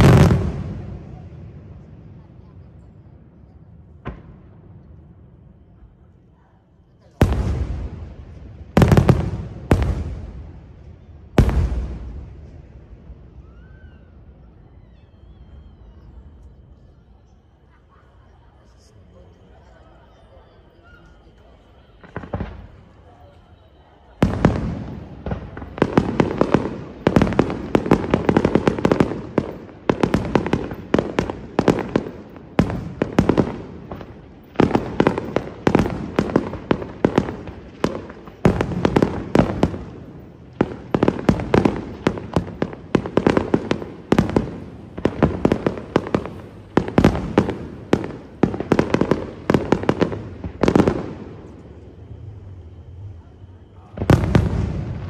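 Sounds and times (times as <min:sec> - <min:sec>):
fireworks bangs and crackles: 0:00.0 - 0:17.7, 0:18.3 - 0:55.0.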